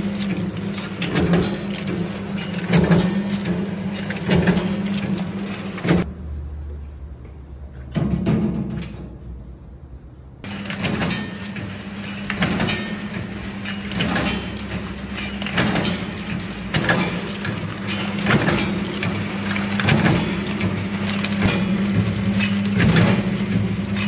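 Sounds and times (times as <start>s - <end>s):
machine motor hum: 0.0s - 6.0s, 10.4s - 24.0s.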